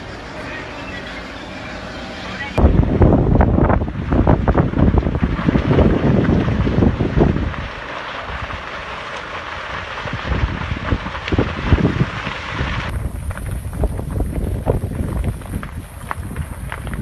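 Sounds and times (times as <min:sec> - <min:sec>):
steady rushing noise: 0:00.0 - 0:17.0
wind buffeting microphone: 0:02.6 - 0:08.8, 0:09.5 - 0:17.0.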